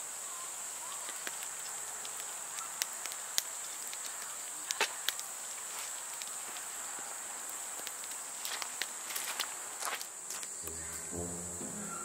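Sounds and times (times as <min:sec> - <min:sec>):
firewood crackling and popping: 0:00.0 - 0:10.8
night insects chirring: 0:00.0 - 0:12.0.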